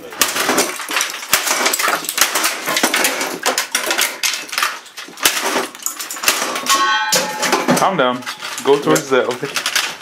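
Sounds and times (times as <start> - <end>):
hard objects clicking and clattering: 0.0 - 10.0.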